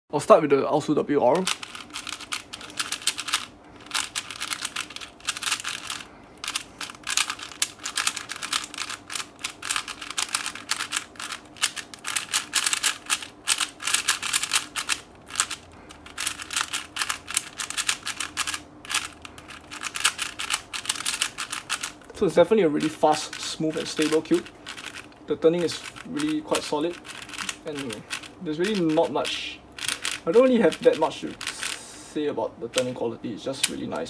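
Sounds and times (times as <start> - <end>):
plastic puzzle cube clicking: 1.4 - 21.9, 23.7 - 25.0, 25.6 - 29.1, 29.8 - 31.8.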